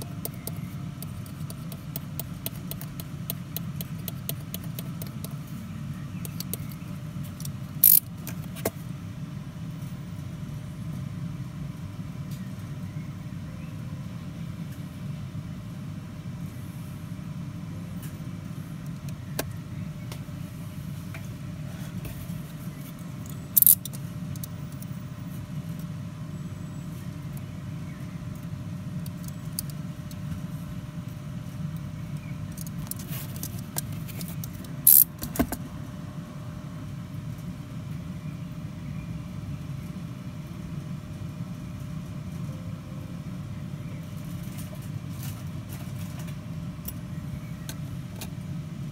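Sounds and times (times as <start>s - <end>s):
low background rumble: 0.0s - 48.9s.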